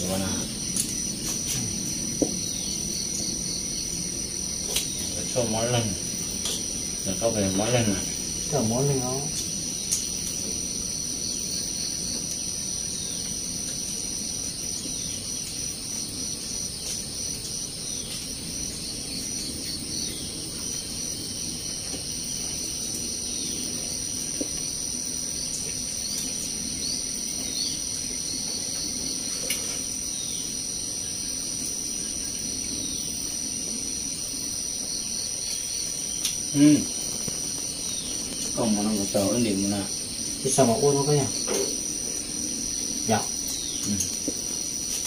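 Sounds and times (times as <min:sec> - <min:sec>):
insect trilling: 0:00.0 - 0:45.0.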